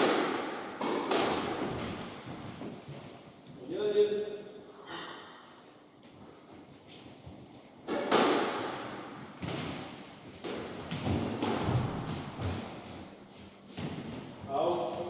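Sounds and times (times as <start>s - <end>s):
squash ball hitting rackets and walls: 0.0s - 3.3s, 6.2s - 15.0s.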